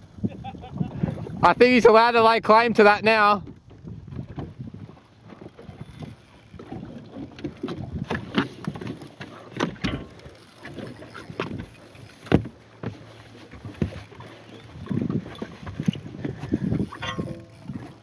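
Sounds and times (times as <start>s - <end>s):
knocks and bumps on a boat: 3.2s - 18.0s.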